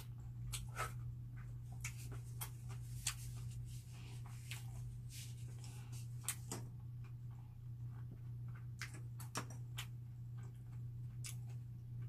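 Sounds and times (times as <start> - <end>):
person eating bread: 0.0 - 12.0.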